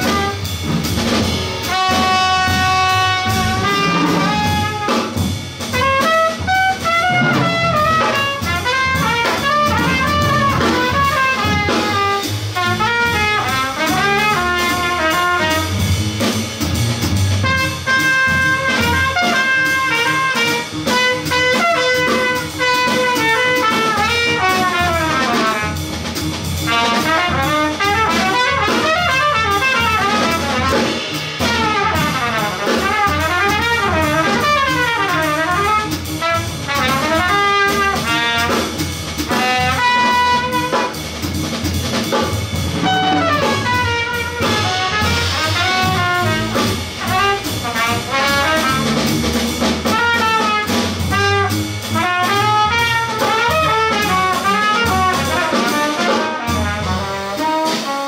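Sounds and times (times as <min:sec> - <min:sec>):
trumpet runs: 0:00.0 - 0:25.9, 0:26.5 - 0:58.0
double bass: 0:00.0 - 0:58.0
drum kit: 0:00.0 - 0:58.0.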